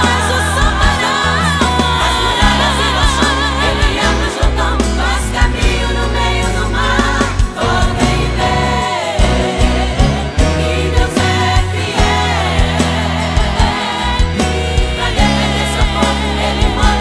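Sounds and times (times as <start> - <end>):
choir voices: 0.0 - 17.0
held bass notes: 0.0 - 17.0
person singing with vibrato: 0.0 - 17.0.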